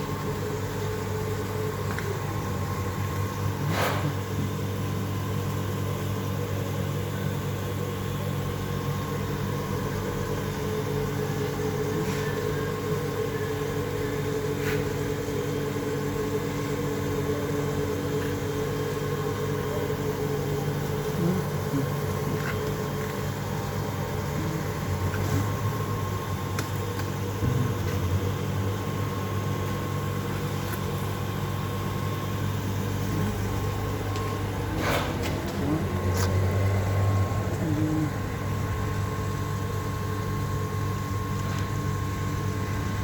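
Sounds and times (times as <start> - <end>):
electric pump motor humming: 0.0 - 43.0.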